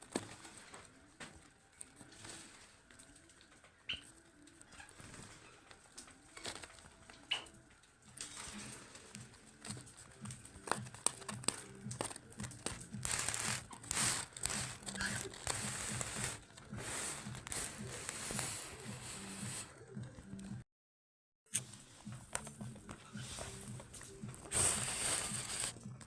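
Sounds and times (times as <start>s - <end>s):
rustling and crinkling: 0.0s - 20.6s, 21.6s - 26.0s.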